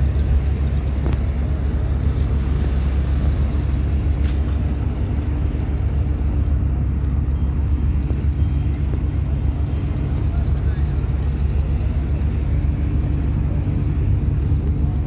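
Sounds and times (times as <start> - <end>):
constant hum: 0.0 - 15.0
low mechanical rumble: 0.0 - 15.0.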